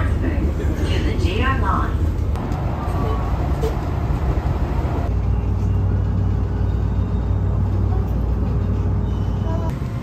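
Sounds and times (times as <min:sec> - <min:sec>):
train wheels and motors rumbling: 0:00.0 - 0:10.0.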